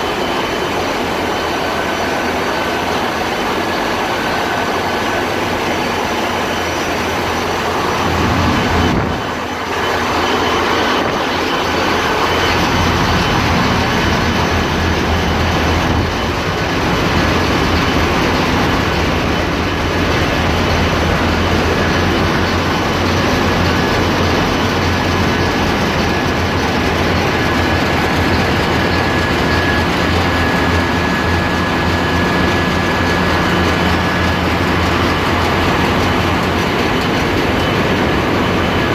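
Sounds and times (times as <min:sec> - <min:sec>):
engine room machinery drone: 0:00.0 - 0:38.9
thin constant whine: 0:00.0 - 0:38.9.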